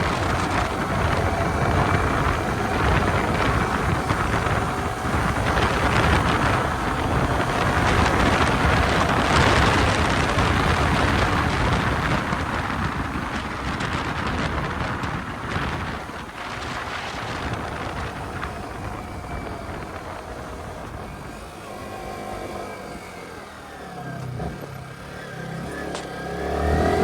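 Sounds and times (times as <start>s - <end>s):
wind rushing over microphone: 0.0s - 23.2s, 24.3s - 27.0s.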